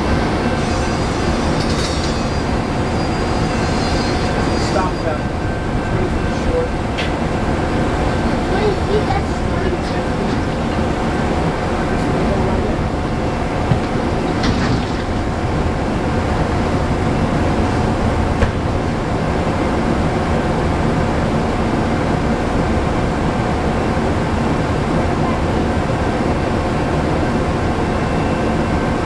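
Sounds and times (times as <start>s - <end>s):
rail cars rumbling: 0.0s - 29.0s.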